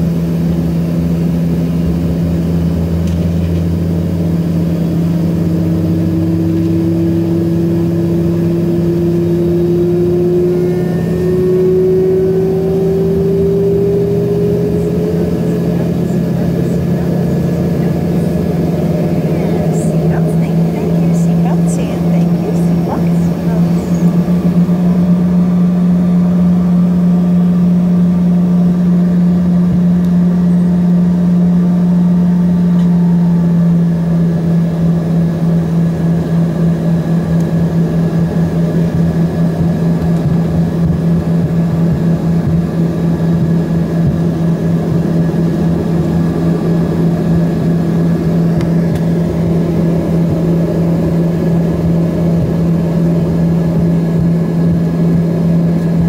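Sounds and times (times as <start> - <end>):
jet cabin drone: 0.0 - 56.0
thin engine whine: 0.0 - 56.0.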